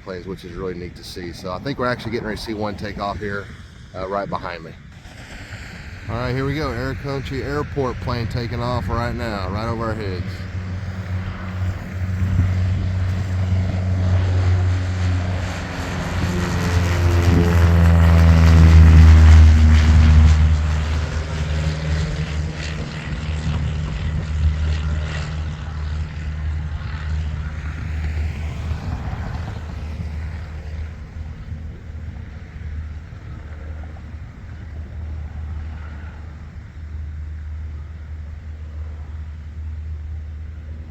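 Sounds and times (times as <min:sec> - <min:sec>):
propeller airplane engine drone: 0:00.0 - 0:40.9.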